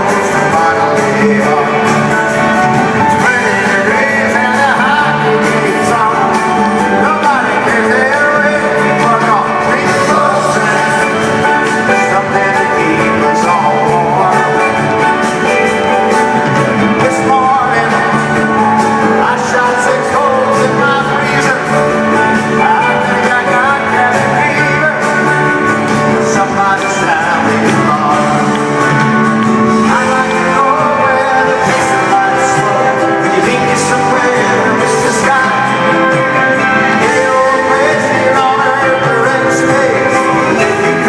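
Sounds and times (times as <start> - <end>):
live rock band playing: 0.0 - 41.0
person singing: 0.0 - 41.0.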